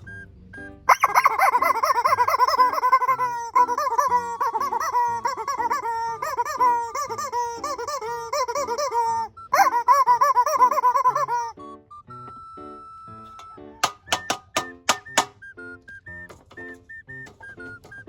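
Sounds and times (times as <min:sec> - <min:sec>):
rubbery squeaking: 0:00.9 - 0:11.5, 0:13.2 - 0:18.0.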